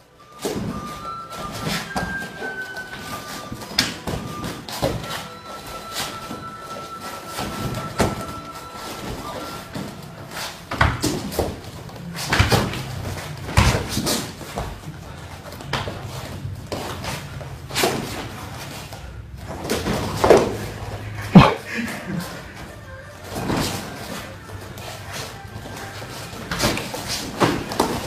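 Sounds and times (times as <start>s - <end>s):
bare feet stamping on mats: 0.3s - 21.7s, 23.3s - 28.0s.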